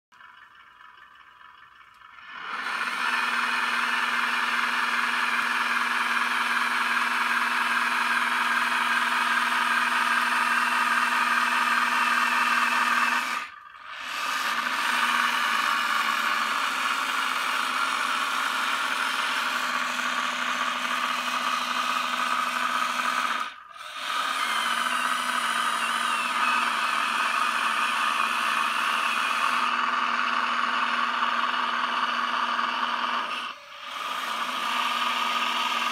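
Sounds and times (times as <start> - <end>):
small electric motors whirring: 2.2 - 35.9.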